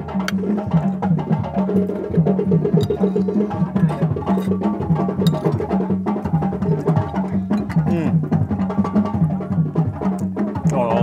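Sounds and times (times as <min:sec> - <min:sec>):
rhythmic wooden percussion music: 0:00.0 - 0:11.0.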